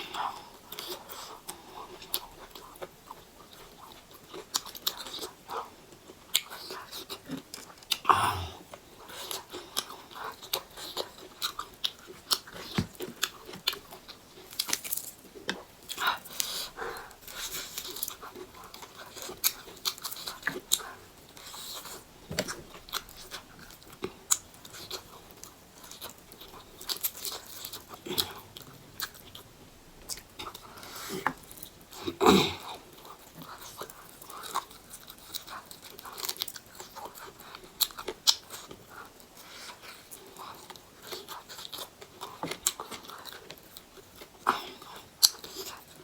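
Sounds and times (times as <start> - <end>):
person chewing crunchy food: 0.0 - 46.0.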